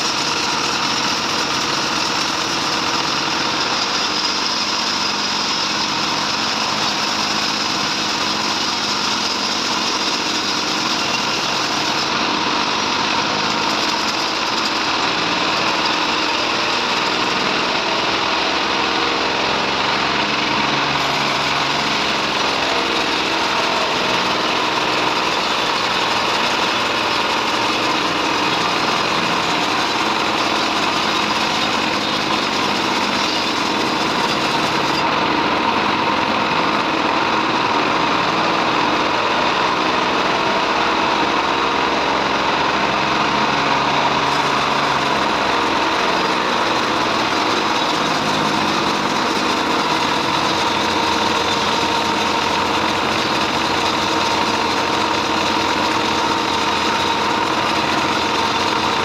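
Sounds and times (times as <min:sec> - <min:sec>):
bandsaw sawing timber: 0:00.0 - 0:59.0
engine droning: 0:00.0 - 0:59.0.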